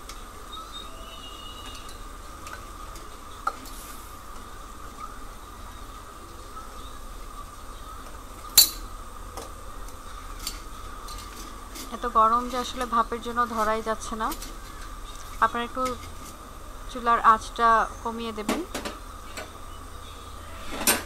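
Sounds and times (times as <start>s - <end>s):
boiling pot hissing: 0.0s - 21.0s.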